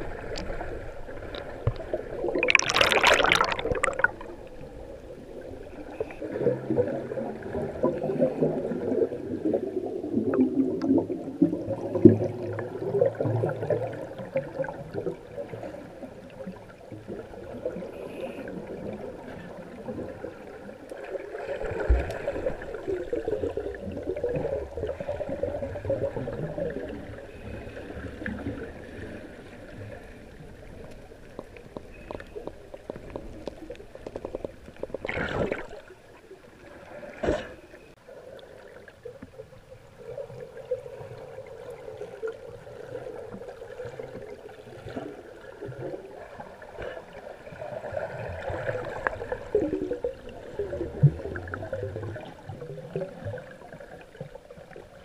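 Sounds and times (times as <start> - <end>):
underwater water swishing: 0.0 - 55.0.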